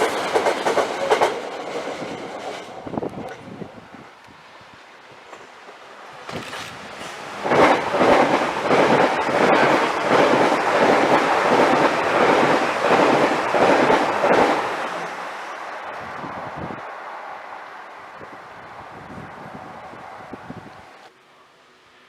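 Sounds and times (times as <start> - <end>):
train wheels pulsing: 0.0 - 3.4, 5.0 - 19.2
train passing: 0.0 - 22.0.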